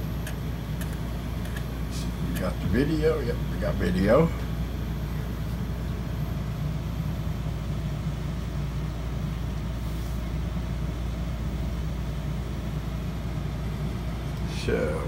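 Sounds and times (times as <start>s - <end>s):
computer cooling fans whirring: 0.0s - 15.0s
low hum: 0.0s - 15.0s.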